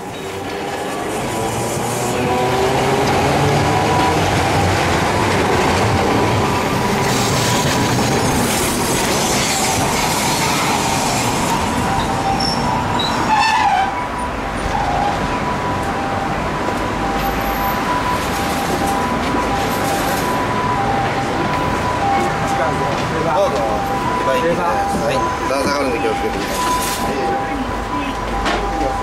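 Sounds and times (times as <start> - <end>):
wheels squealing on rail: 0.0 - 15.4, 17.1 - 21.1, 23.6 - 29.0
streetcar wheels rumbling on rail: 0.0 - 29.0
streetcar whine: 0.0 - 29.0.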